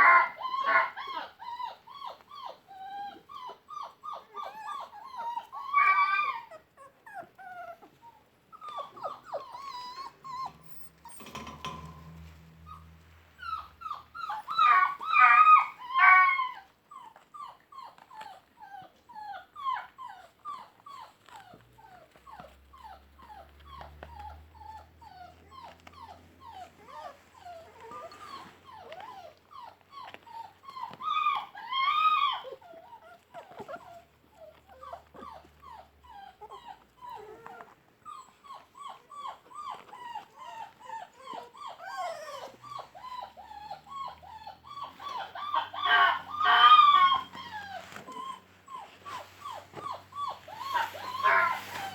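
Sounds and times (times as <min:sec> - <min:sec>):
puppies whimpering and squeaking: 0:00.0 - 0:51.9.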